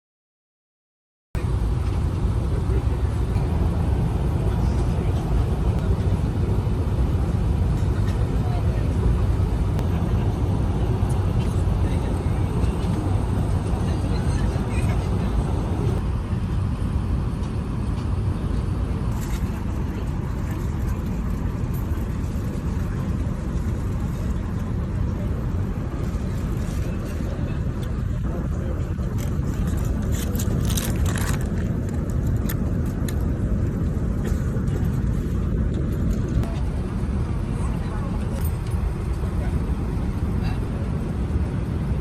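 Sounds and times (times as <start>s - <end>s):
airliner cabin engine roar: 1.4s - 42.0s.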